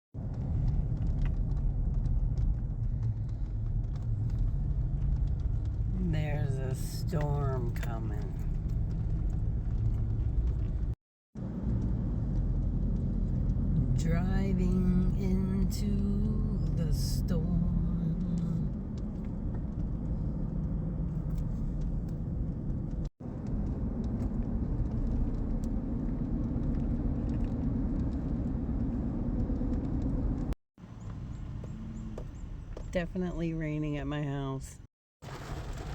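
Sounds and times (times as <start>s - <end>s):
car engine and road noise: 0.2s - 35.9s.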